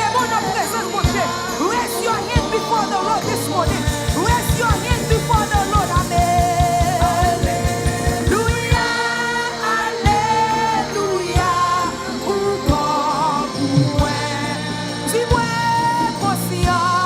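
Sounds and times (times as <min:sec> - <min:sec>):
fast drum beat: 0:00.0 - 0:17.0
voices singing over a band: 0:00.0 - 0:17.0.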